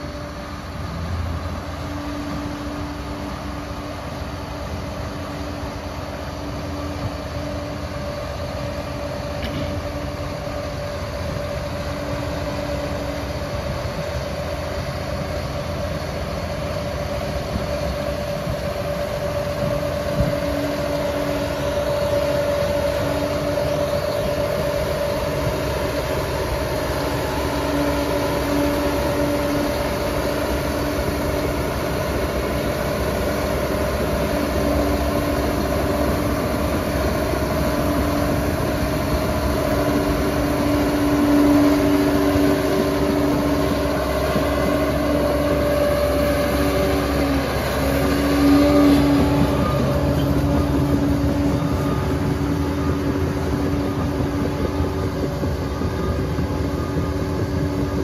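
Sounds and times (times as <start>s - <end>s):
dozer diesel engine under load: 0.0s - 58.0s
steady mechanical whine: 0.0s - 58.0s.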